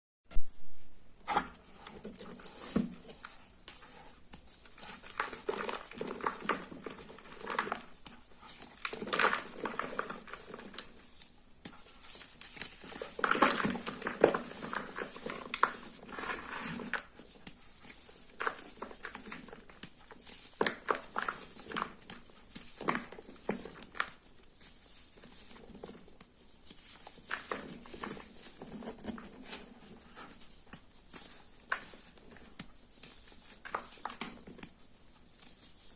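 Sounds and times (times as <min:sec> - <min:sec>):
hands crunching chalk blocks: 0:01.3 - 0:35.9.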